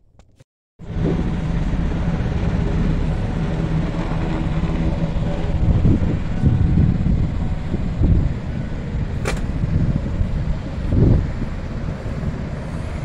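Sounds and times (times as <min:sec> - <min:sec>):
low engine rumble: 0:00.8 - 0:13.0.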